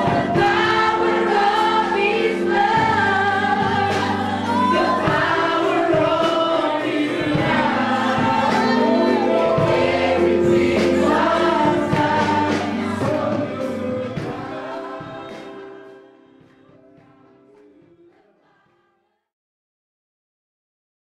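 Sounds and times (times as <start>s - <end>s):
gospel choir singing: 0.0s - 19.2s.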